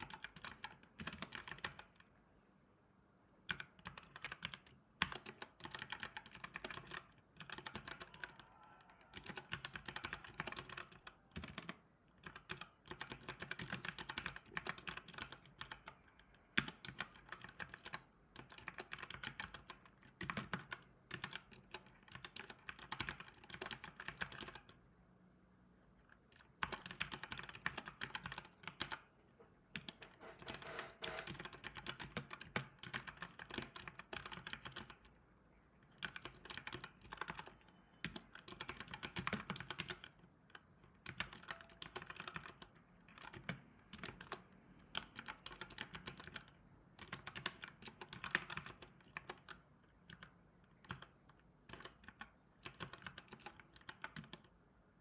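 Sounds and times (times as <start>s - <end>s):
computer keyboard typing: 0.0s - 2.1s, 3.4s - 24.8s, 26.0s - 29.1s, 29.7s - 35.2s, 35.8s - 54.6s.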